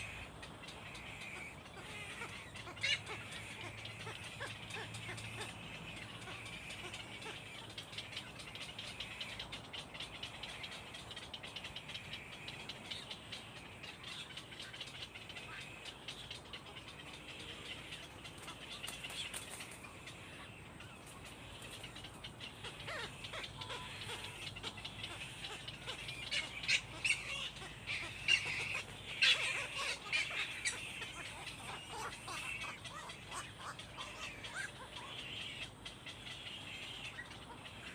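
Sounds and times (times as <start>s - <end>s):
birds chattering: 0.0s - 37.9s.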